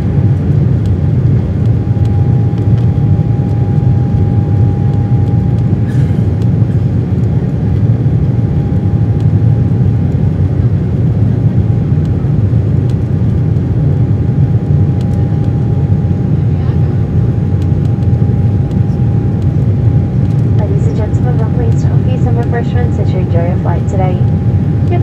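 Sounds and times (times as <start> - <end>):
jet engines low rush: 0.0 - 25.0
thin steady engine whine: 0.0 - 25.0.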